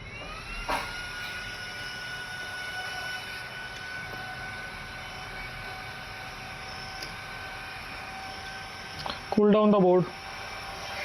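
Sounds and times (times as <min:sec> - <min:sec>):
electric blower whining: 0:00.0 - 0:11.0.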